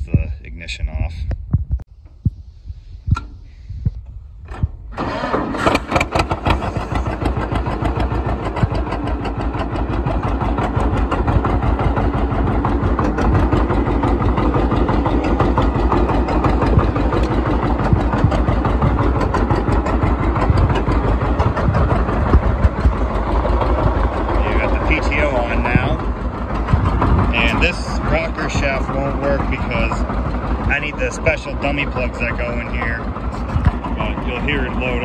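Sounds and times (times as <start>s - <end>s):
tractor engine starting and running: 0.0s - 35.0s.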